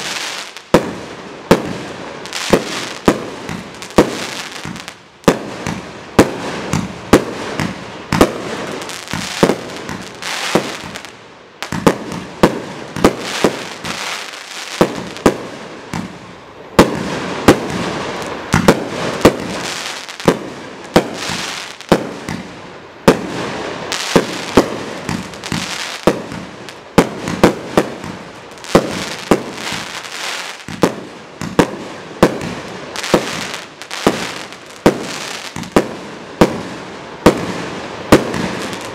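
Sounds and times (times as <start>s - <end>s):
firework hiss: 1.4s - 5.8s, 6.4s - 16.1s, 16.8s - 22.5s, 23.2s - 38.9s.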